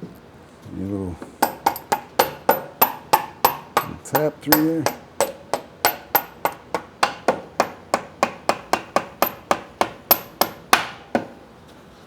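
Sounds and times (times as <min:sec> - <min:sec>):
rubber mallet tapping metal shaft: 0:01.4 - 0:11.4.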